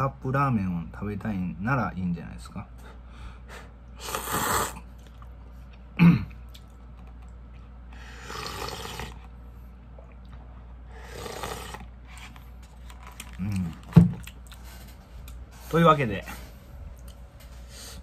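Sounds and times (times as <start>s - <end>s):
man eating noisily: 3.0s - 18.0s.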